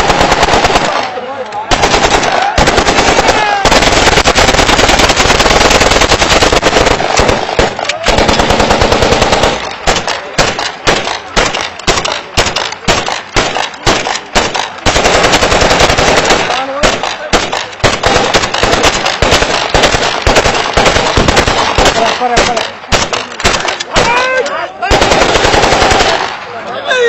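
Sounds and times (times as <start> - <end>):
automatic gunfire: 0.0 - 24.3, 24.9 - 26.5.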